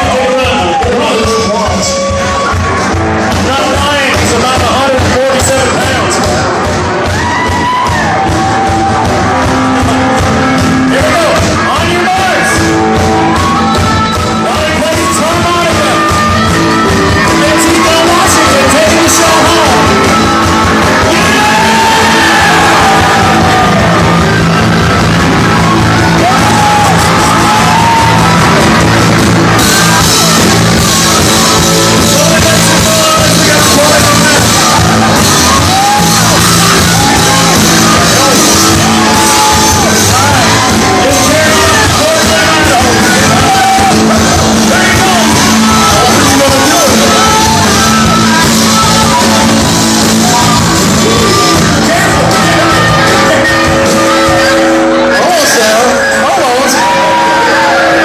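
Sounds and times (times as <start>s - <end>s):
crowd yelling: 0.0s - 58.0s
live country-rock band: 0.0s - 58.0s.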